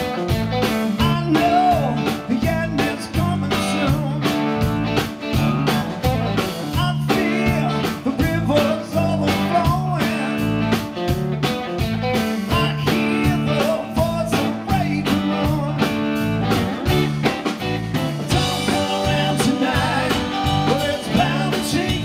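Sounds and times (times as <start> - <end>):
distorted electric guitar: 0.0 - 22.0
drums keeping a steady beat: 0.0 - 22.0
electric bass: 0.0 - 22.0.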